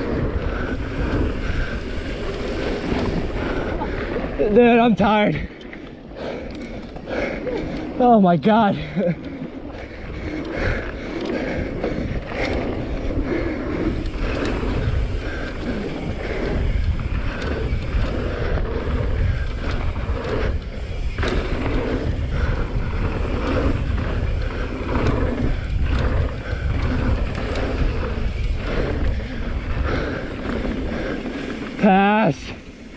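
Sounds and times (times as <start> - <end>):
bike tyres rolling on dirt: 0.0 - 32.9
wind rumbling on microphone: 0.0 - 32.9.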